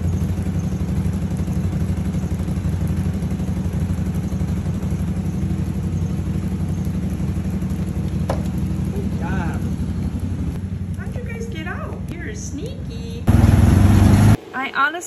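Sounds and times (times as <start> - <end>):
vehicle engine idling: 0.0 - 14.4.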